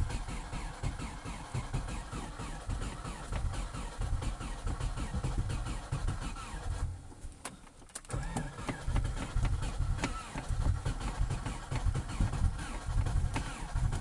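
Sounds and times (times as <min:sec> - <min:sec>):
car engine running unevenly: 0:00.0 - 0:14.0.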